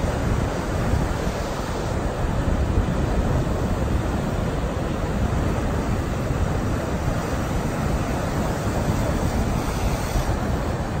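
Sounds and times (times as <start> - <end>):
sea surf breaking: 0.0 - 11.0
wind buffeting microphone: 0.0 - 11.0.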